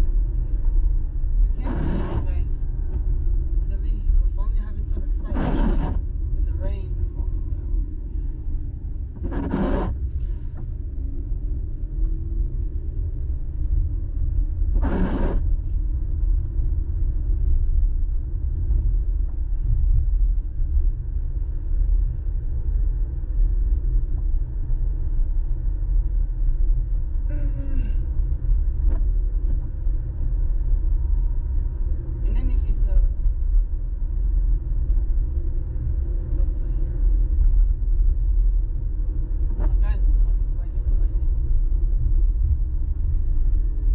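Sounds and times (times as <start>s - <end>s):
car cabin road and engine rumble: 0.0s - 43.9s.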